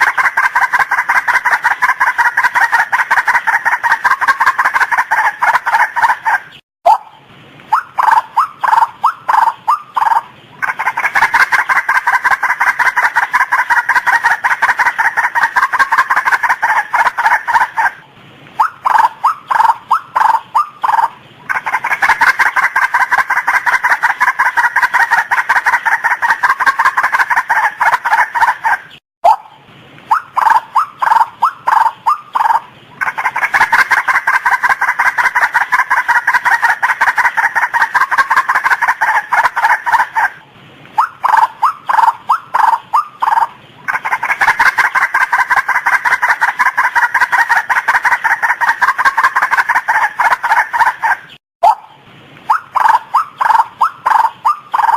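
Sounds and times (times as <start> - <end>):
waterhen calling: 0.0 - 54.9.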